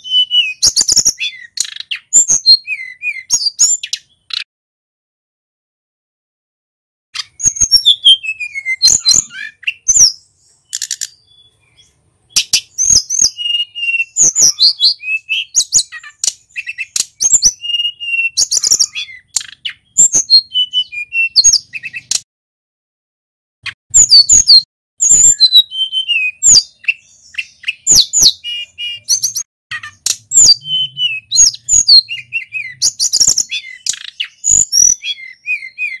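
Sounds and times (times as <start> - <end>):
songbird singing: 0.0 - 4.5, 7.2 - 22.3, 23.6 - 36.0.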